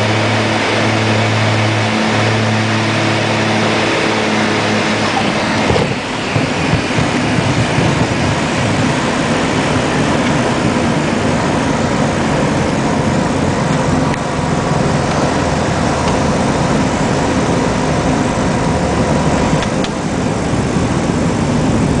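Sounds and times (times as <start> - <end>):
aircraft engines running: 0.0 - 22.0.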